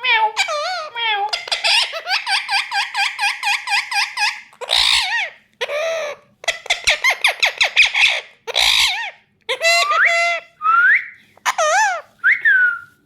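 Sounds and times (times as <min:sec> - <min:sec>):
parakeet calling: 0:00.0 - 0:10.6, 0:11.3 - 0:12.2.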